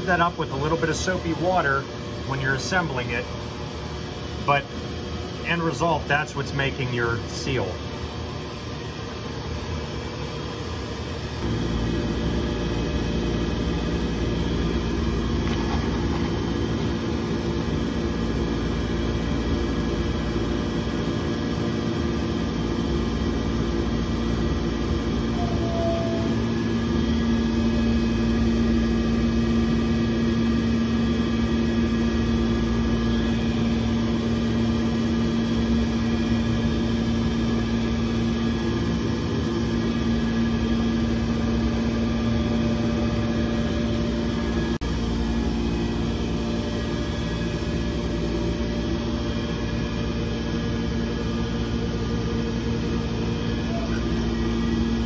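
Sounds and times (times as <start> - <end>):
boiler room machinery droning: 0.0 - 55.0.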